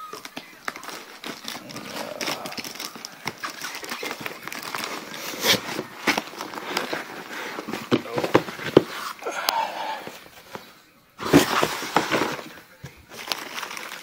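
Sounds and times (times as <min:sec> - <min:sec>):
plastic wrapping crinkling: 0:00.0 - 0:14.0
cardboard box rustling: 0:00.7 - 0:14.0.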